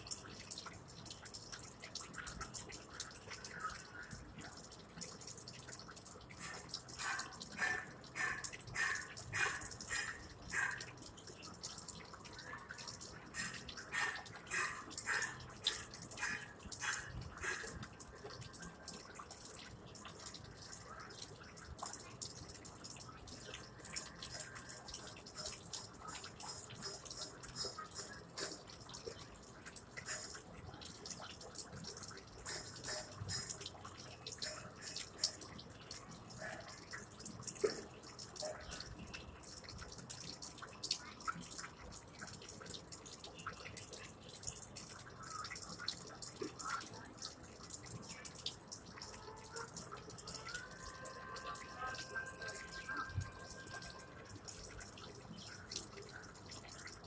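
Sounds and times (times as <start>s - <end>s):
water dripping: 0.0s - 57.0s.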